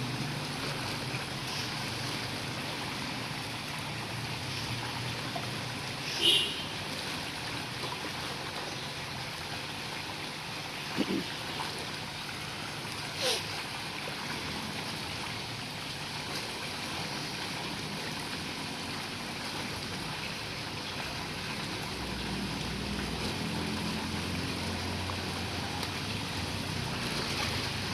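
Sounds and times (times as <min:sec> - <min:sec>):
water trickling into a pond: 0:00.0 - 0:27.9.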